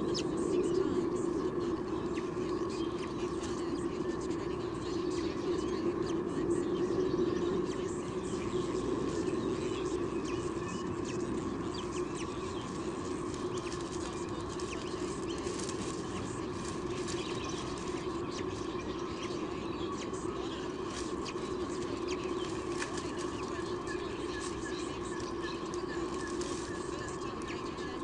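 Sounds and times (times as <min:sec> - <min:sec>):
bird chicks peeping: 0:00.0 - 0:28.0
rustling leaves in nest: 0:00.0 - 0:28.0
steady low hum: 0:00.0 - 0:28.0.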